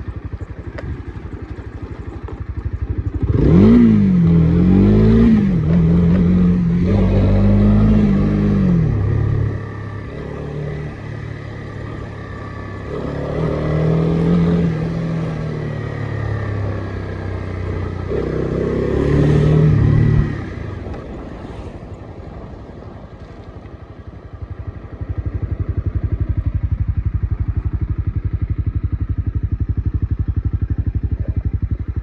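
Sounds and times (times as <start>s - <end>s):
motorcycle engine: 0.0s - 32.0s.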